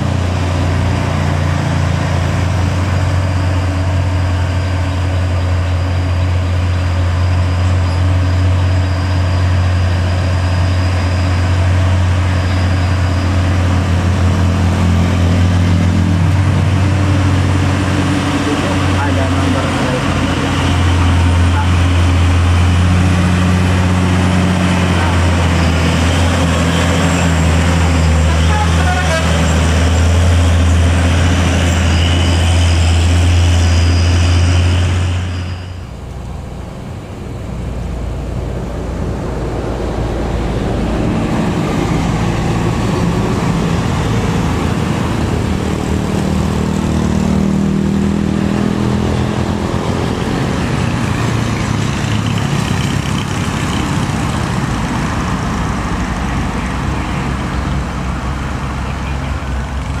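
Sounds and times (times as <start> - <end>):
diesel truck engine passing: 0.0 - 60.0
heavy vehicle diesel engine: 0.0 - 60.0.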